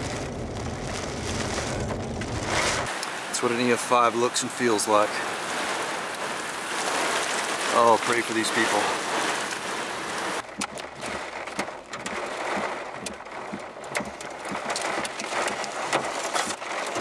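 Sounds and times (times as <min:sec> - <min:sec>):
heavy rain and wind: 0:00.0 - 0:17.0.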